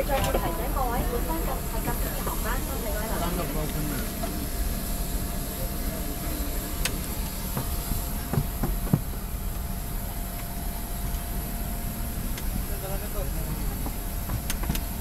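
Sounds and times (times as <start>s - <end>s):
airliner cabin roar: 0.0s - 15.0s
faint constant whine: 0.0s - 15.0s.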